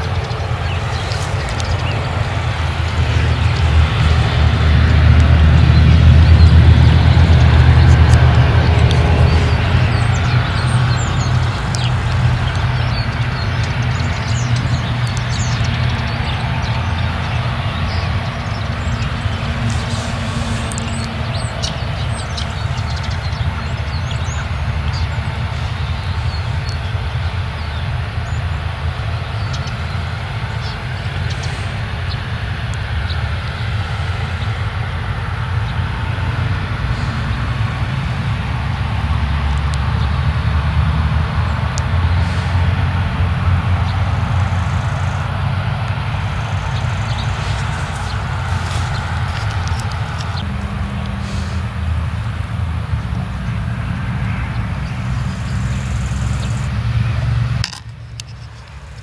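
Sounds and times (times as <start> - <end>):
combine harvester engine drone: 0.0 - 59.0
machinery noise: 0.0 - 59.0.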